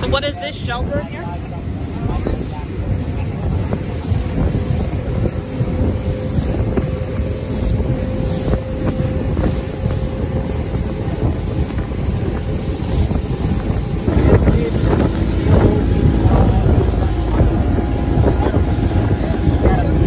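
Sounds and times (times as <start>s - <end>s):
vehicle engine drone: 0.0s - 20.0s
wind buffeting microphone: 0.0s - 20.0s.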